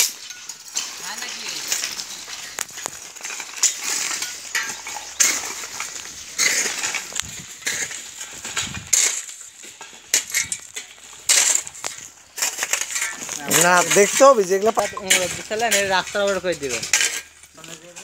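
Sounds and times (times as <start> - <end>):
clinking brick chips: 0.0 - 18.0
hoe scraping rubble over dirt: 0.0 - 18.0.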